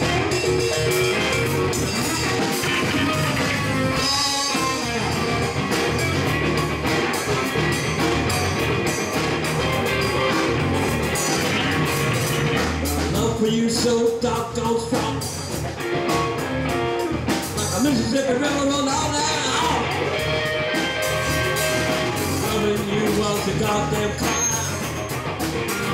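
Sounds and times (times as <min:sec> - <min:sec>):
drum kit: 0:00.0 - 0:25.9
electric bass: 0:00.0 - 0:25.9
electric guitar: 0:00.0 - 0:25.9.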